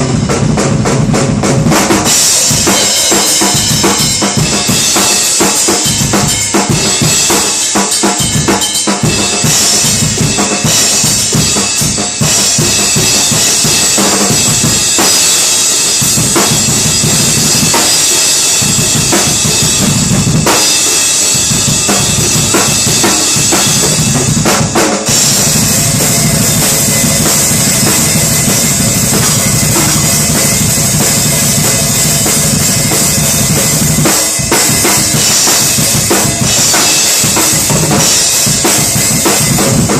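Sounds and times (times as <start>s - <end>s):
kick and snare drum strokes: 0.0s - 39.9s.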